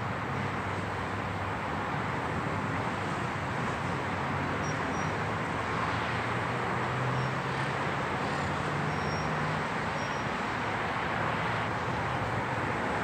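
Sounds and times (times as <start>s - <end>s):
city traffic noise: 0.0s - 13.0s
vehicle engine hum: 0.0s - 13.0s.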